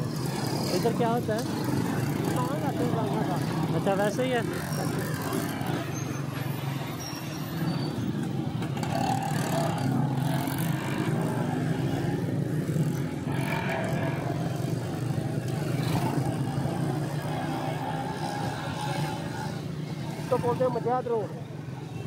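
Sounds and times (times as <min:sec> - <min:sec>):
small motorcycle engine running: 0:00.0 - 0:06.9, 0:07.5 - 0:22.0
busy street traffic: 0:00.0 - 0:22.0.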